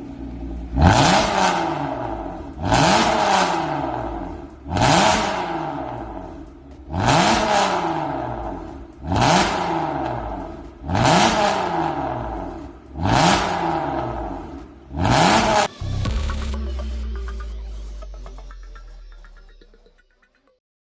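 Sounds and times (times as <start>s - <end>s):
car engine revving: 0.0s - 19.8s
background music: 1.9s - 20.6s.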